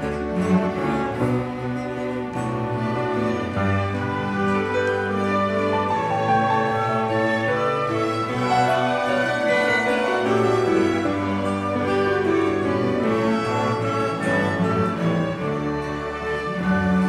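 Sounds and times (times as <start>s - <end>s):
orchestra playing hymn: 0.0s - 17.0s.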